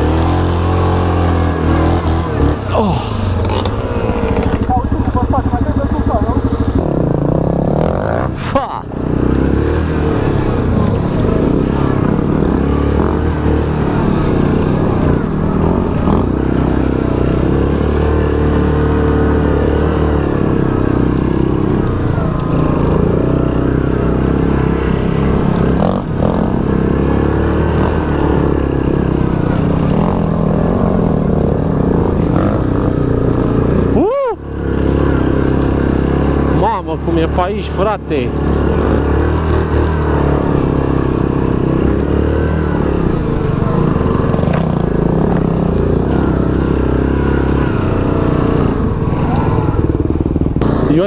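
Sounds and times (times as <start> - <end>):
atv engine under load: 0.0 - 51.0.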